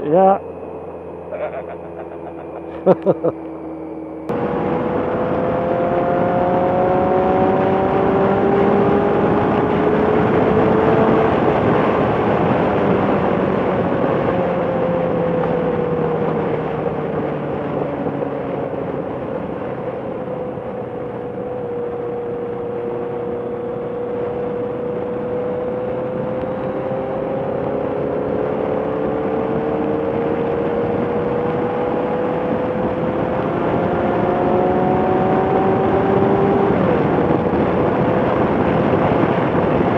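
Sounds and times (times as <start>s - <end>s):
motorcycle engine running: 0.0s - 39.9s
road and wind rush: 0.0s - 39.9s.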